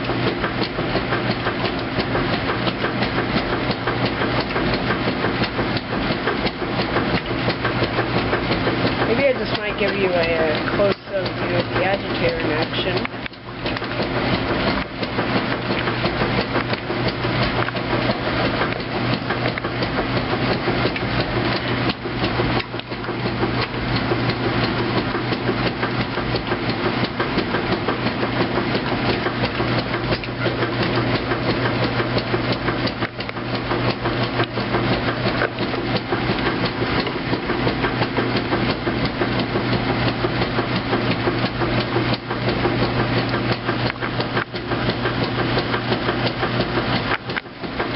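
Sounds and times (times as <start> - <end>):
agitator knocking: 0.0 - 47.9
washing machine motor humming: 0.0 - 47.9.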